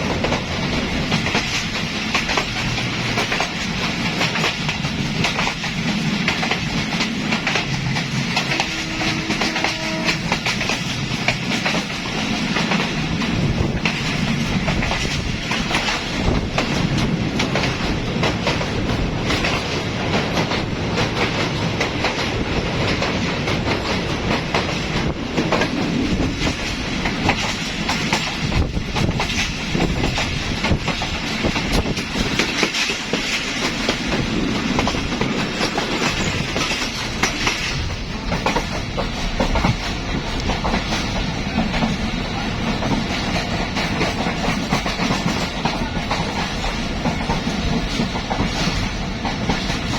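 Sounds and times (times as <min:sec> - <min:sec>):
train wheels clattering on rails: 0:00.0 - 0:49.9.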